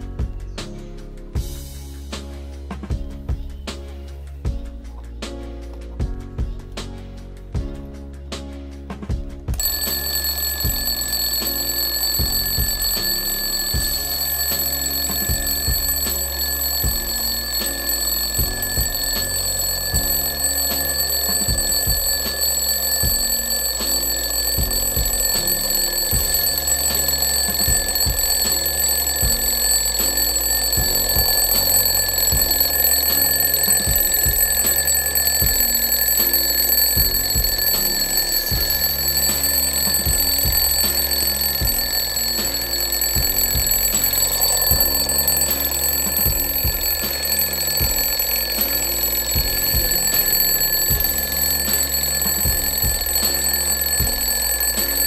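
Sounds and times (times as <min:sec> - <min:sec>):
alarm clock bells ringing: 0:09.6 - 0:55.0.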